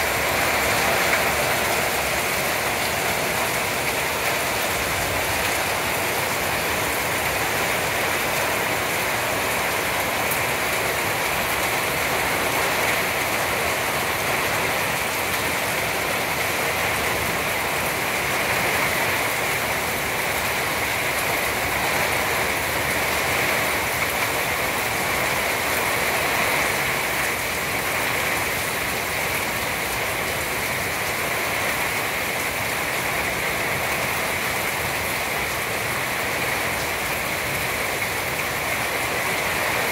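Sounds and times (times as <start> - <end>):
heavy rain on trees and deck: 0.0 - 39.9.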